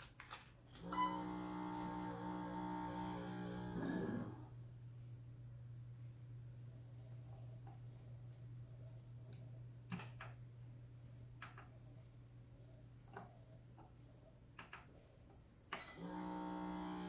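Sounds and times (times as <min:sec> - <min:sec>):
steady low hum: 0:00.4 - 0:17.0.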